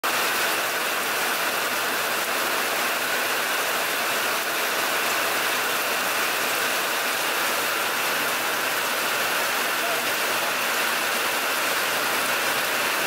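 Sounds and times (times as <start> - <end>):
rain on water and foliage: 0.0 - 13.0.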